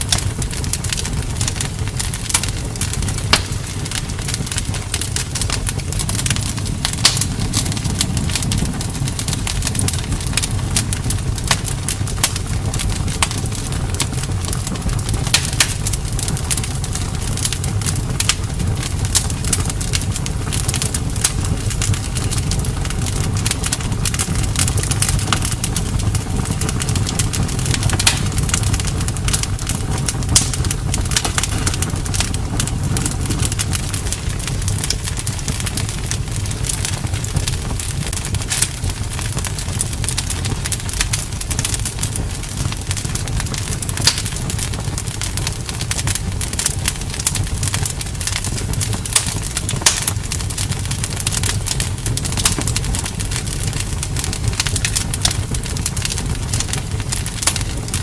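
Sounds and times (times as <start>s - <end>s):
steady low rumble: 0.0s - 58.0s
wood crackling and popping: 0.0s - 58.0s.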